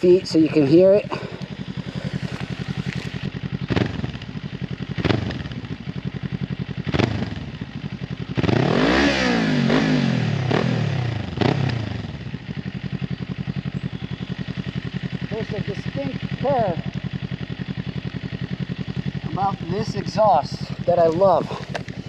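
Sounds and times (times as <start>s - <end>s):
motorcycle engine idling: 0.0s - 22.0s
throttle blips and revving: 0.0s - 22.0s.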